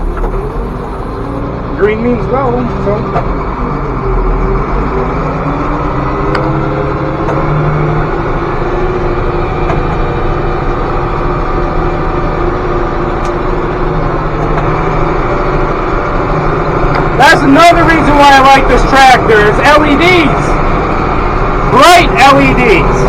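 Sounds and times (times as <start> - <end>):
tractor diesel engine speeding up: 0.0 - 23.0.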